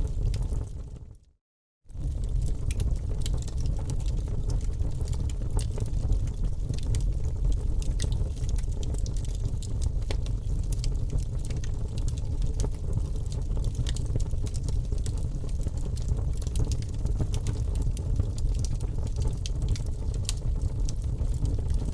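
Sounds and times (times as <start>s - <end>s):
wood fire crackling and popping: 0.0s - 1.2s, 1.9s - 21.9s
low rumble of flames: 0.0s - 1.3s, 1.9s - 21.9s.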